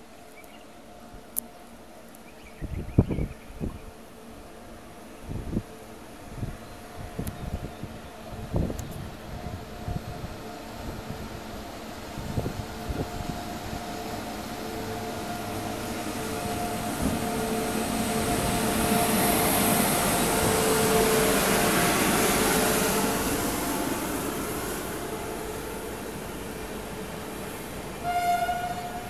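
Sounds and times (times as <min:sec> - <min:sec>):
electric locomotive whine: 0:00.0 - 0:29.0
train coaches rolling on track: 0:03.8 - 0:29.0.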